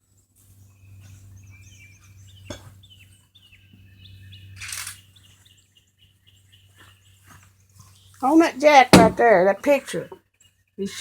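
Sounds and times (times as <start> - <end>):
small birds chirping: 0.4 - 11.0.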